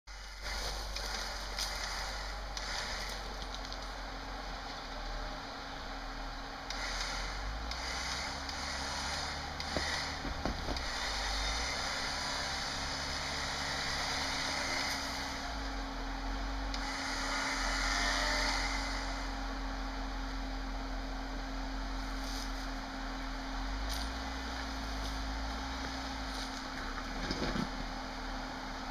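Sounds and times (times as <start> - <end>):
electric winch humming: 0.1 - 28.9.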